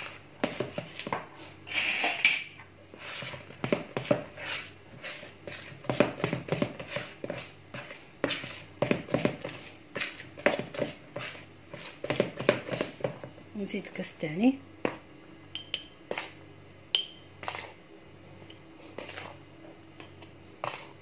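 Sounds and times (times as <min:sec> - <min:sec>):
spoon beating dough in plastic bowl: 0:00.0 - 0:01.4, 0:02.9 - 0:13.4, 0:14.8 - 0:17.8, 0:18.4 - 0:21.0.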